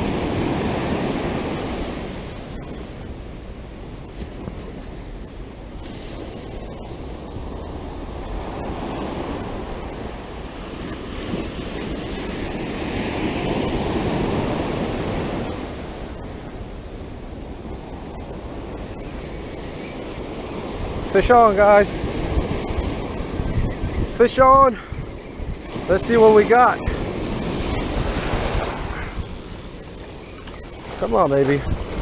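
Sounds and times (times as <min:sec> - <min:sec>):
ocean surf breaking on beach: 0:00.0 - 0:32.0.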